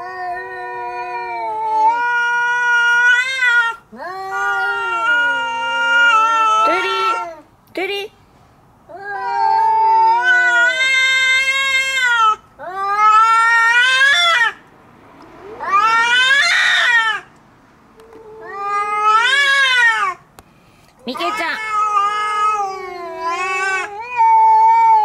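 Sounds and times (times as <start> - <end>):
cats yowling: 0.0 - 7.4, 8.9 - 14.6, 15.4 - 17.3, 18.0 - 20.2, 21.1 - 25.0.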